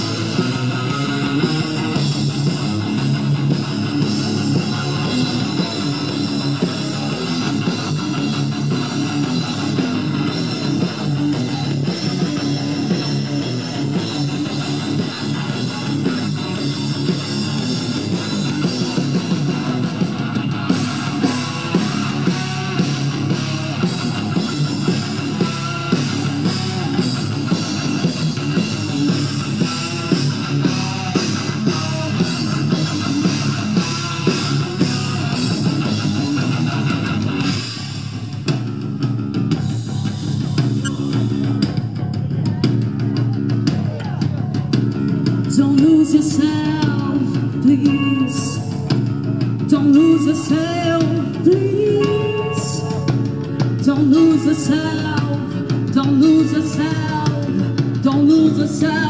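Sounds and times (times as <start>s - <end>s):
person singing lead vocals: 0.0s - 36.0s, 43.9s - 59.0s
live rock band playing: 0.0s - 59.0s.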